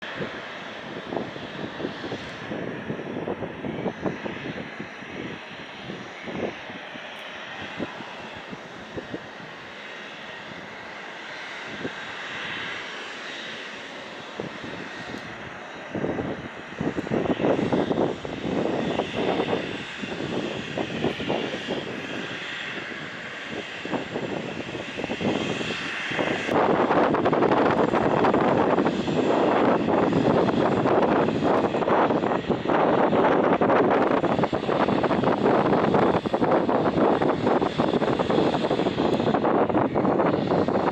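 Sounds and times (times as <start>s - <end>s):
helicopter engines: 0.0s - 40.9s
helicopter rotor beat: 0.0s - 40.9s.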